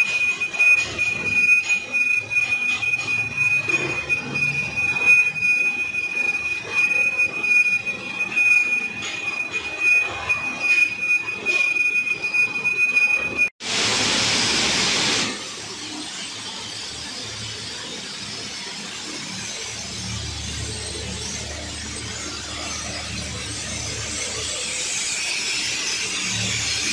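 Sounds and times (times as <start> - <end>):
lathe cutting tool squealing: 0.0 - 13.5, 18.0 - 26.9
lathe running noise: 0.0 - 26.9.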